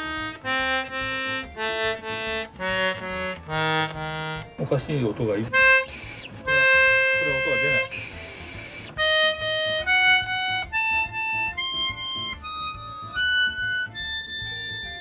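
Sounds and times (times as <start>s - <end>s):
accordion notes: 0.0s - 15.0s.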